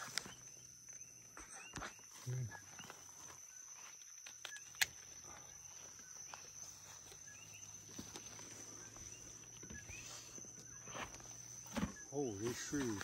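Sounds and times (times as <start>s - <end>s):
high insect trill: 0.0s - 13.0s
short insect chirps: 0.0s - 13.0s.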